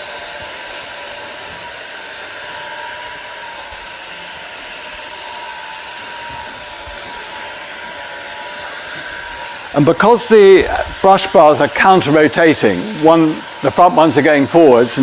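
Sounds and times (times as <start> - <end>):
vacuum motor whine: 0.0 - 15.0.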